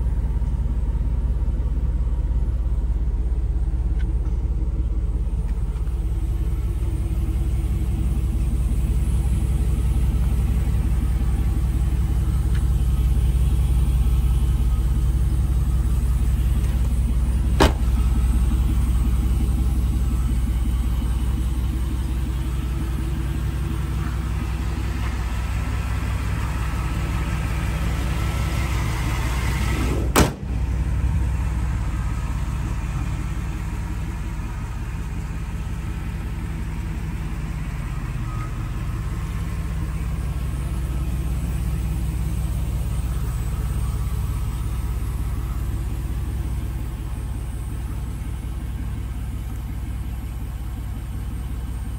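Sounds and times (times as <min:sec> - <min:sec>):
pickup engine idling: 0:00.0 - 0:51.9.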